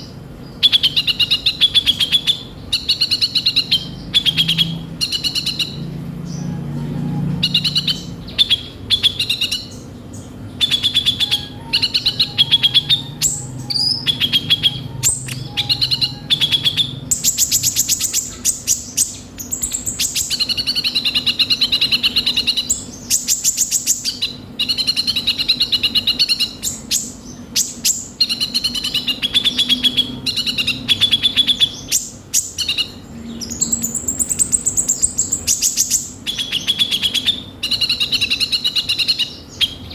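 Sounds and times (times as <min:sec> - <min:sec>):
bird singing fast chittering trills: 0:00.0 - 0:39.9.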